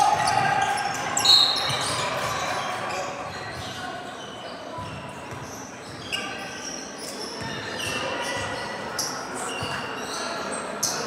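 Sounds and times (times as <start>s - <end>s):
sneakers squeaking on court: 0.1s - 11.0s.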